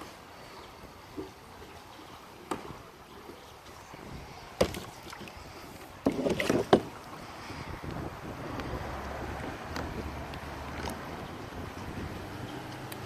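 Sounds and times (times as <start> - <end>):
kayak paddle splashes: 0.0 - 13.0
wind and water hiss: 0.0 - 13.0.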